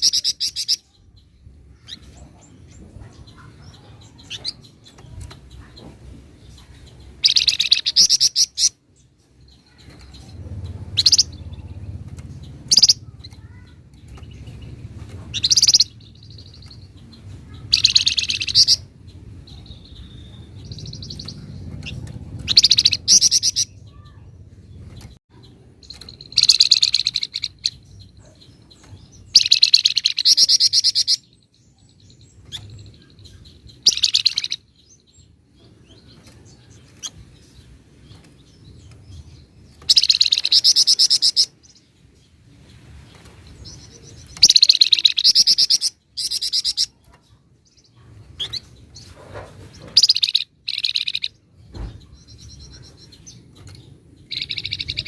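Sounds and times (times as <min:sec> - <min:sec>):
songbird rattling song: 0:00.0 - 0:55.0.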